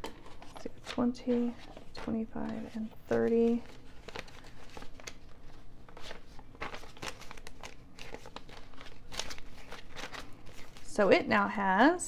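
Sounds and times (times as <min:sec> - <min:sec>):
banknotes crinkling: 0:00.0 - 0:11.6.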